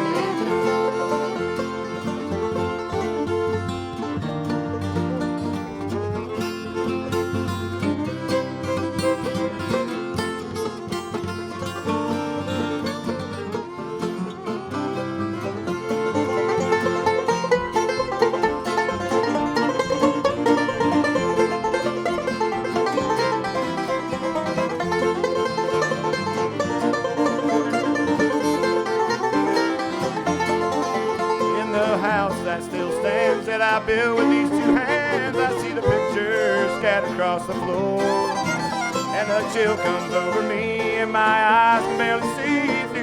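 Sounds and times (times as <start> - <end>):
banjo: 0.0 - 43.0
string band playing: 0.0 - 43.0.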